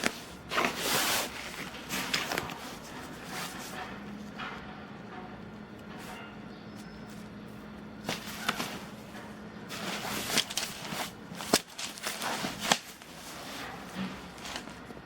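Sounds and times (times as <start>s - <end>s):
handling rustling: 0.0s - 4.4s, 6.8s - 15.0s.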